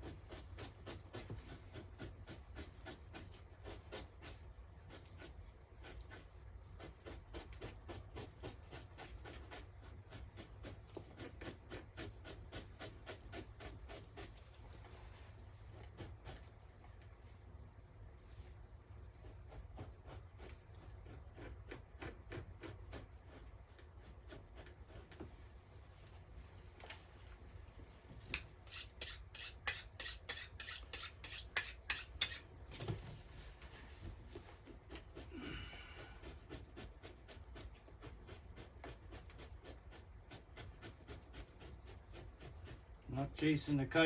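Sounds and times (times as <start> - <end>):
knife scraping a pelt: 0.0 - 16.5, 19.2 - 25.2, 28.3 - 32.5, 34.3 - 42.9.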